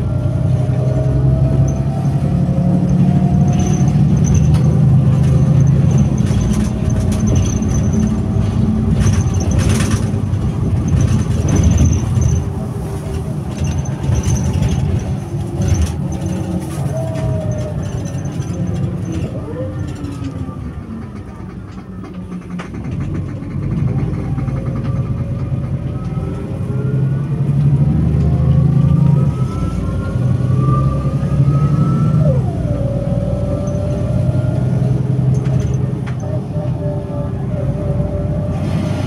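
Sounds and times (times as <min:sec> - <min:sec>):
bus diesel engine idling: 0:00.0 - 0:30.4, 0:32.2 - 0:39.0.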